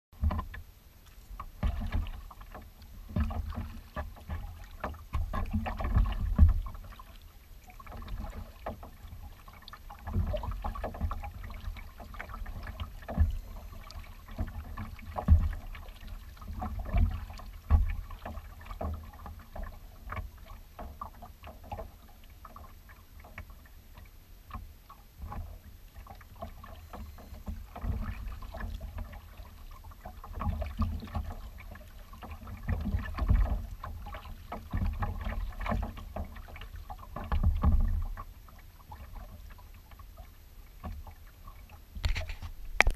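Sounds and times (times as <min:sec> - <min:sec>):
waves lapping against kayak hull: 0:00.2 - 0:42.9.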